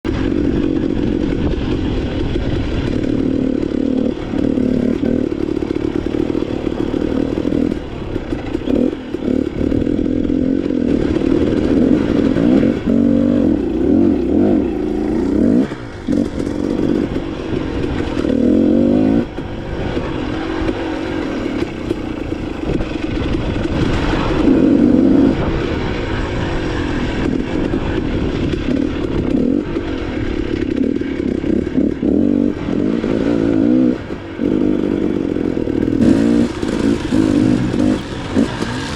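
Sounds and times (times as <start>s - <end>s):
dirt bike engine revving: 0.1s - 38.9s.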